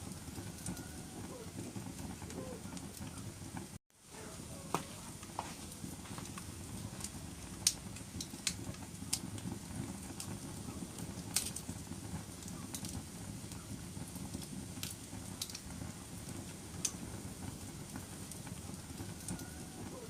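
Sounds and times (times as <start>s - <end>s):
burning wood pops and crackles: 0.0s - 20.0s
fireplace flame rumble: 0.0s - 20.0s.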